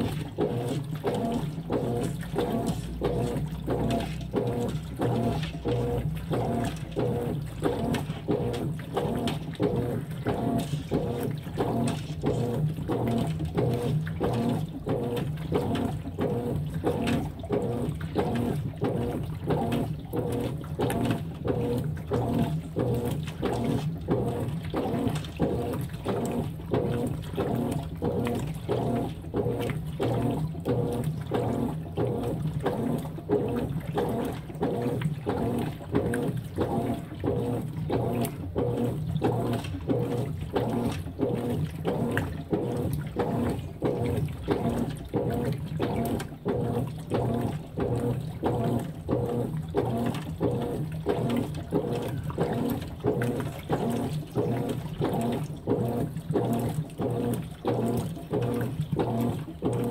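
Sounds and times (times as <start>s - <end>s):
washing machine churning and sloshing: 0.0s - 59.9s.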